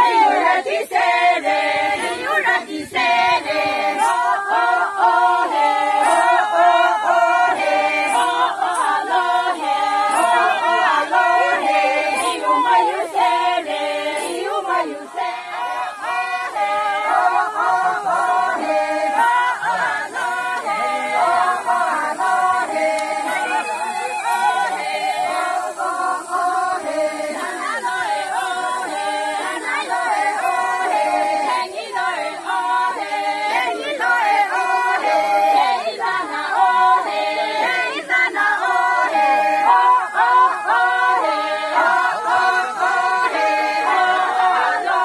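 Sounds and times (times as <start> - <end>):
ankle bells jingling: 0.0 - 45.0
women singing unaccompanied: 0.0 - 45.0.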